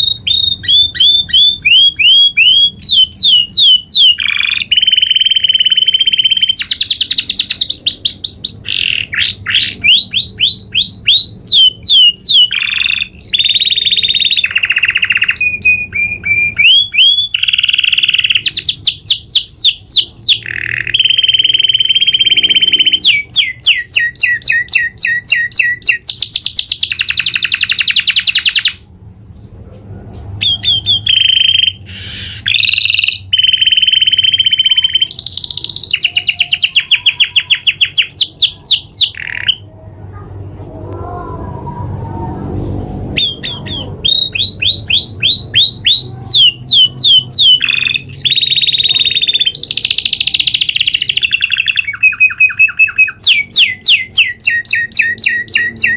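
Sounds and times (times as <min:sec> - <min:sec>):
canary singing rolling trills: 0:00.0 - 0:55.9.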